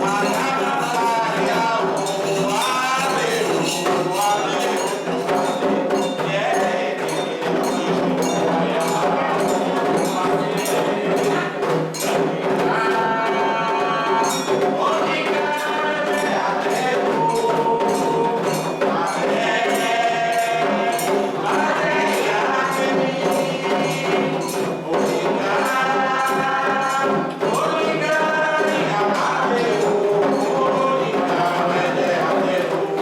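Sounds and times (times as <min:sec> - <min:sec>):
chant with long held notes: 0:00.0 - 0:33.0
steady percussion rhythm: 0:00.0 - 0:33.0.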